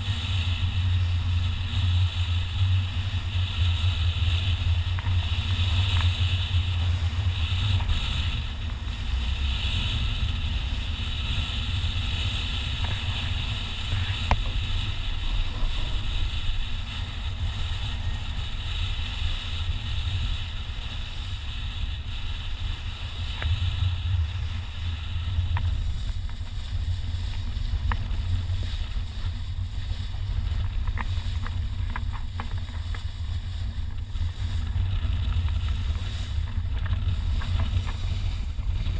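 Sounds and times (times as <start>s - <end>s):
water rushing along hull: 0.0s - 38.9s
wind buffeting microphone: 0.0s - 38.9s.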